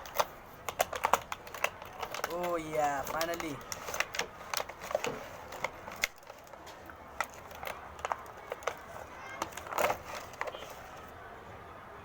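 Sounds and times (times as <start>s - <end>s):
packaging crackling: 0.0s - 11.1s.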